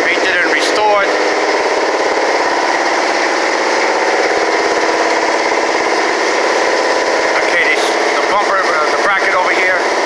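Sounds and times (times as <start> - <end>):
shop machinery droning: 0.0 - 10.0.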